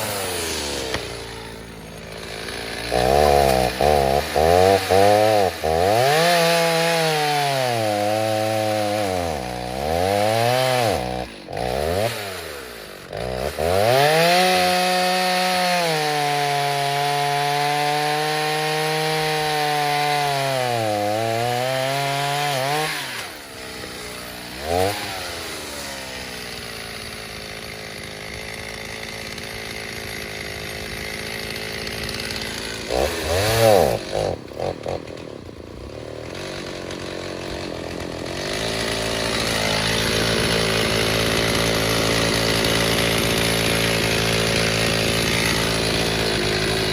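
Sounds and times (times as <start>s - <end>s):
chainsaw cutting wood: 0.0s - 46.9s
chainsaw idling and revving: 0.0s - 46.9s.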